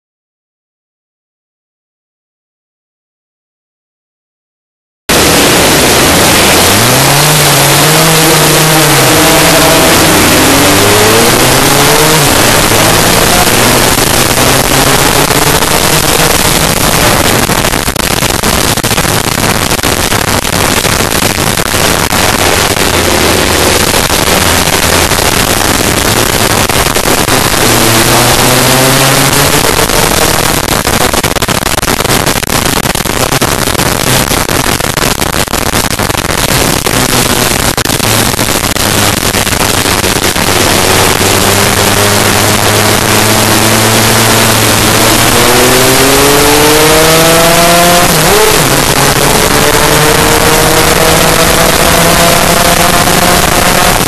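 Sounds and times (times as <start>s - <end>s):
two-stroke scooter engine revving: 5.1s - 54.0s.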